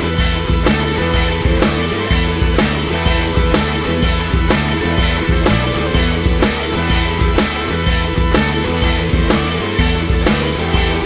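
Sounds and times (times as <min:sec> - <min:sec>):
rock music: 0:00.0 - 0:11.0
steady drum beat: 0:00.0 - 0:11.0.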